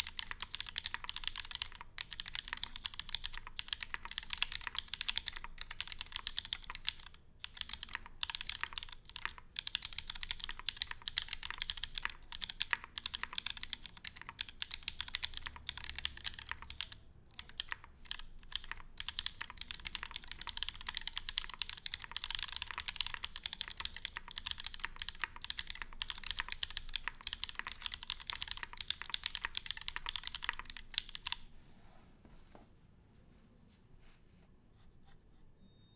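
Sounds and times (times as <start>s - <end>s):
fast typing on mechanical keyboard: 0.0s - 31.5s.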